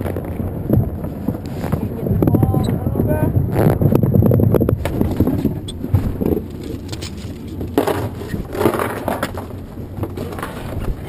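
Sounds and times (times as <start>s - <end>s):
boat motor rumbling: 0.0s - 11.0s
wind on microphone: 0.0s - 11.0s.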